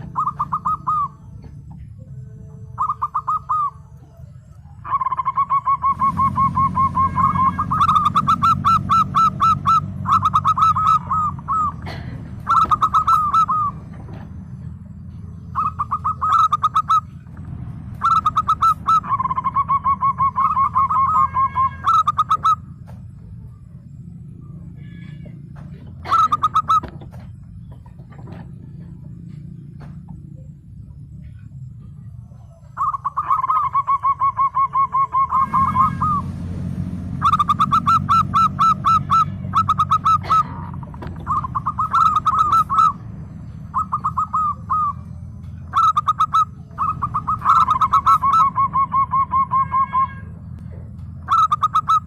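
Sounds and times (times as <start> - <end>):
dove cooing: 0.0 - 36.4, 37.1 - 52.0
low steady hum: 0.0 - 52.0.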